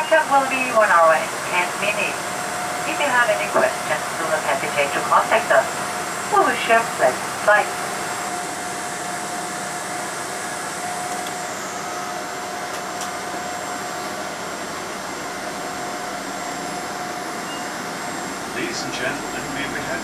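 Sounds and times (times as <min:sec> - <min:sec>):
engine whine: 0:00.0 - 0:20.0.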